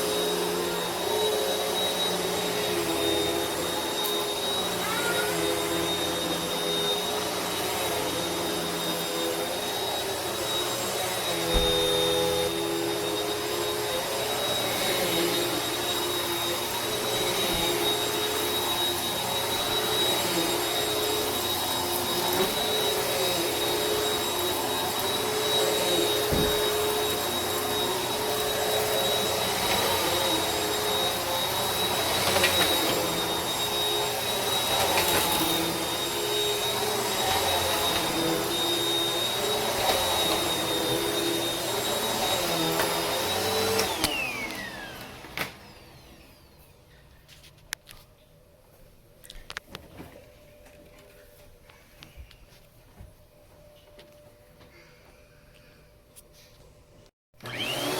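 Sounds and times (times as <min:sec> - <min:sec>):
vacuum cleaner running: 0:00.0 - 0:47.0, 0:56.8 - 0:57.9.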